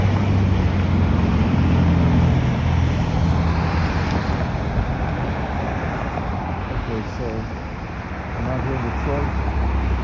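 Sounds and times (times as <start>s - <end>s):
road noise: 0.0s - 10.0s
vehicle engine drone: 0.0s - 10.0s.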